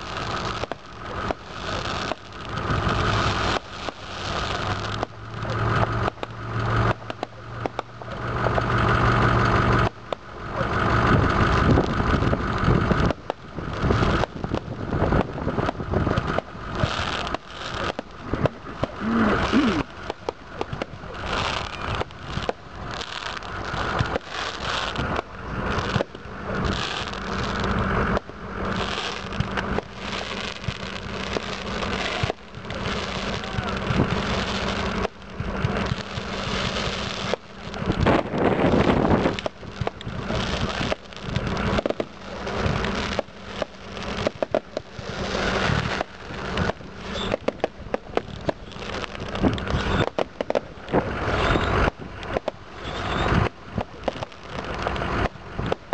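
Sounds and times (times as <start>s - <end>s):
fireworks thumps bangs and crackles: 0.0s - 55.9s.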